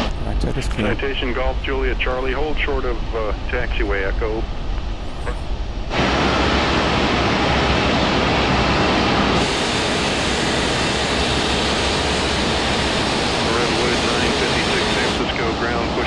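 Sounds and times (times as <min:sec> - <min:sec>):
jet aircraft rushing: 0:00.0 - 0:16.0.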